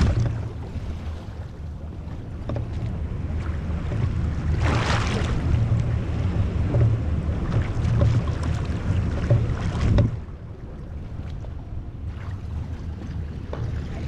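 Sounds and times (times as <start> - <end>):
water washing along hull: 0.0 - 14.0.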